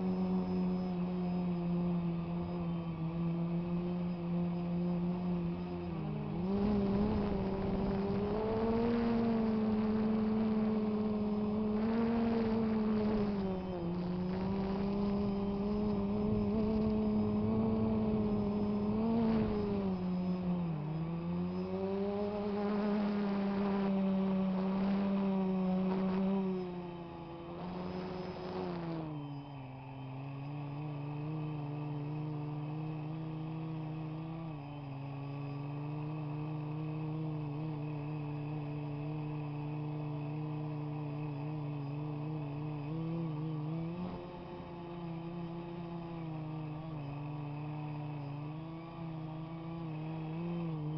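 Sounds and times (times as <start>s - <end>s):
drone propellers humming: 0.0s - 50.9s.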